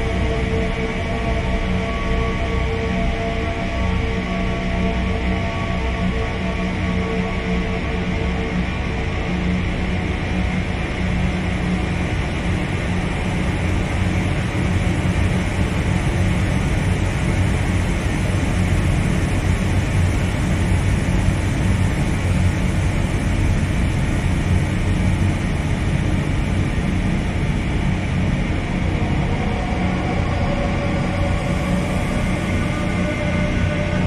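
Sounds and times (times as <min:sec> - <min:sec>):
dark ambient drone music: 0:00.0 - 0:34.0.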